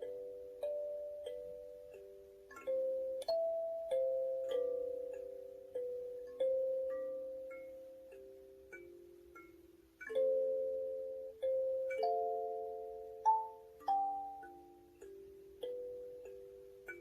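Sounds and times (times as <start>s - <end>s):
kalimba melody: 0.0s - 17.0s.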